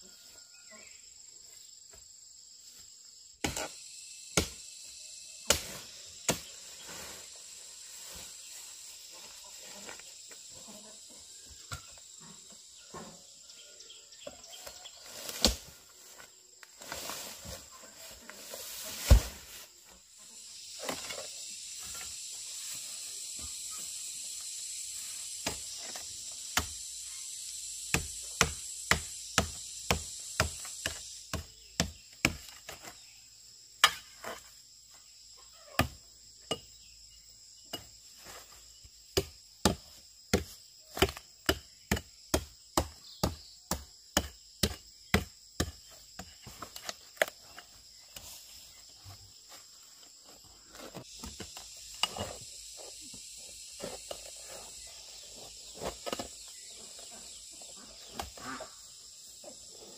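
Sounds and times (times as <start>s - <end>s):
high insect chorus: 0.0s - 59.9s.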